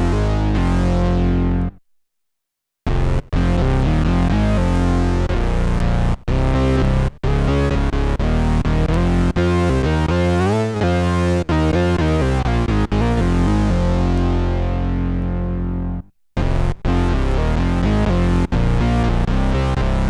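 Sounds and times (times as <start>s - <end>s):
synth bass notes: 0.0s - 1.8s, 2.9s - 20.0s.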